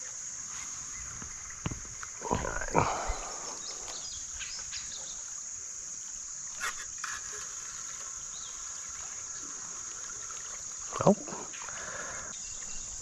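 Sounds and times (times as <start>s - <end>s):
high-pitched insect drone: 0.0s - 13.0s
faint chirps: 0.5s - 5.4s, 6.0s - 13.0s.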